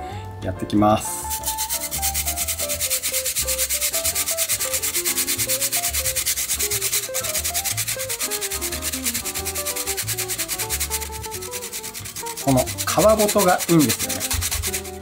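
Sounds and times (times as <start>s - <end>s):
lemon rasping on grater: 1.3s - 15.0s.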